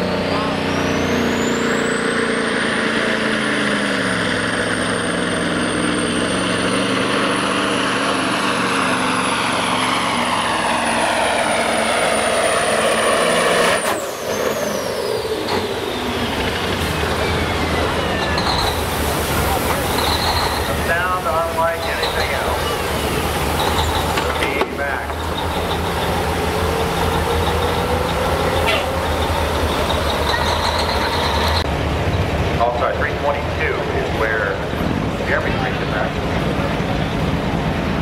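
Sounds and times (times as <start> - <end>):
turbocharger whistling: 0.0 - 32.8
diesel truck engine under load: 0.0 - 38.0.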